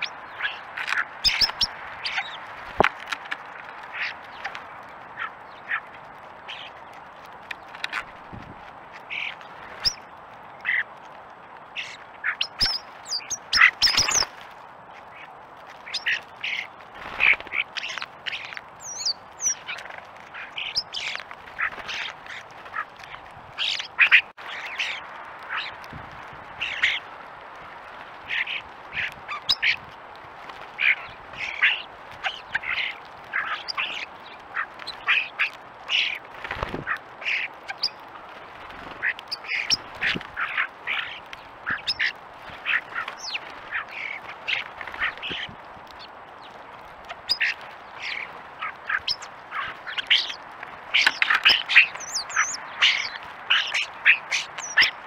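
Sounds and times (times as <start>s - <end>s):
starlings squawking: 0.0s - 8.0s, 9.0s - 10.9s, 11.7s - 14.4s, 15.1s - 25.9s, 26.5s - 27.1s, 28.2s - 29.8s, 30.6s - 55.0s.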